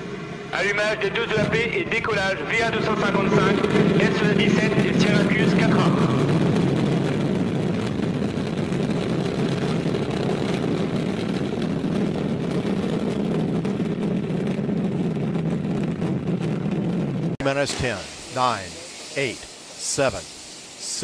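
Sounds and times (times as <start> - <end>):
rocket engines roaring: 0.0 - 21.0.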